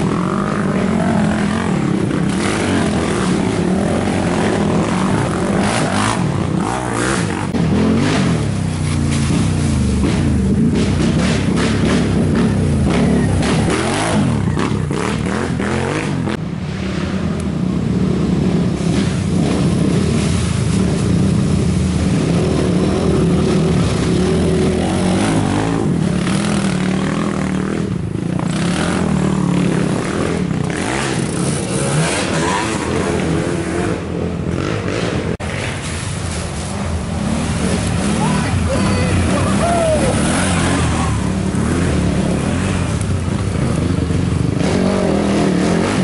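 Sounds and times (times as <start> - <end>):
quad engines revving past: 0.0 - 46.0.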